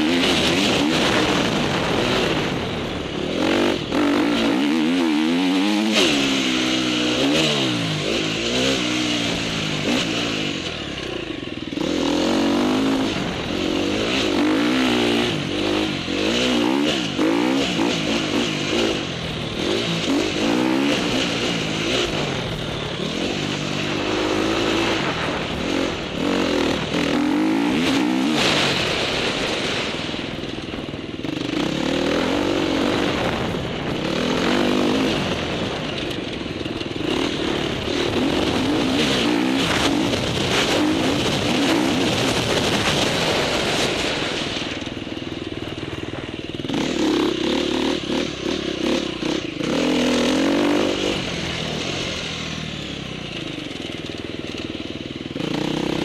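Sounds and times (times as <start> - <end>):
dirt bike engine revving: 0.0 - 56.0
steady rushing noise: 0.0 - 56.0.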